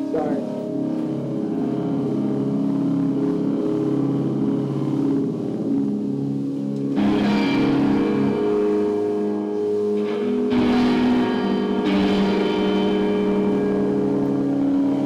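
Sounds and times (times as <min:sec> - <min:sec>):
electric guitar sustained notes: 0:00.0 - 0:15.0.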